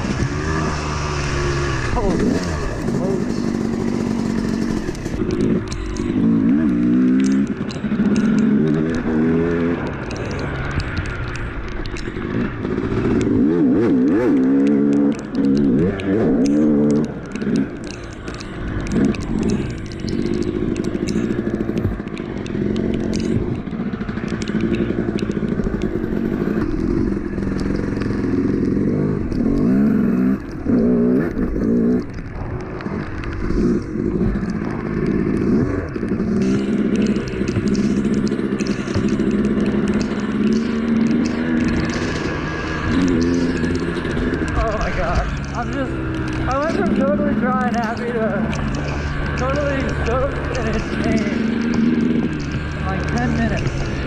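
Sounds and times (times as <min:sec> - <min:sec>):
dirt bike engine revving: 0:00.0 - 0:54.0
rattling and scraping: 0:00.0 - 0:54.0.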